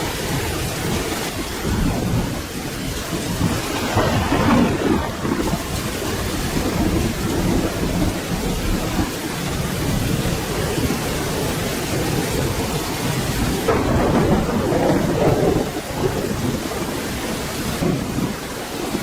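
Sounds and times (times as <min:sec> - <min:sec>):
low thunder rumble: 0:00.0 - 0:19.0
steady rain falling: 0:00.0 - 0:19.0.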